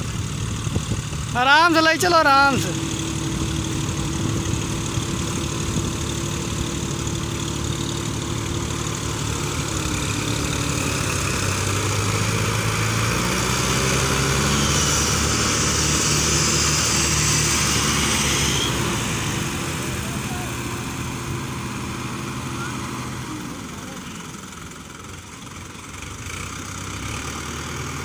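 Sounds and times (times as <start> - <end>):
tractor engine running under load: 0.0 - 28.0.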